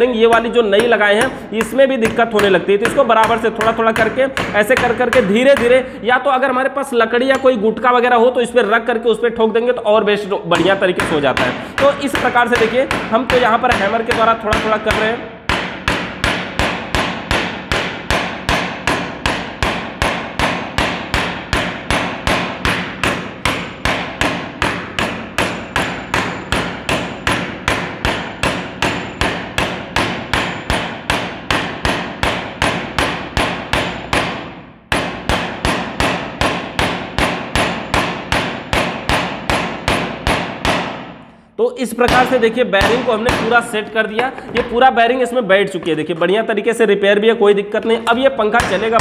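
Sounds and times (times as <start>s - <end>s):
hammer tapping metal bearing: 0.0s - 5.8s, 7.3s - 7.6s, 10.5s - 41.0s, 42.1s - 45.0s.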